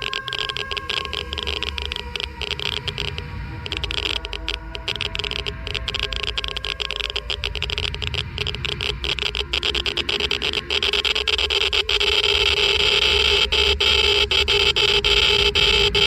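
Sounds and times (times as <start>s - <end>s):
geiger counter clicking: 0.0s - 16.0s.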